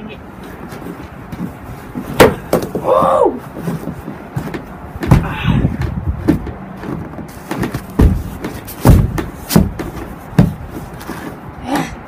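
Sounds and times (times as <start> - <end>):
boots stomping heavy thuds: 1.3 - 12.0.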